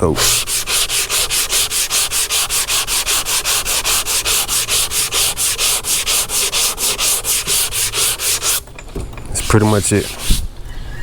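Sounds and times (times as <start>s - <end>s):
sanding block strokes: 0.0s - 8.6s, 9.4s - 10.5s.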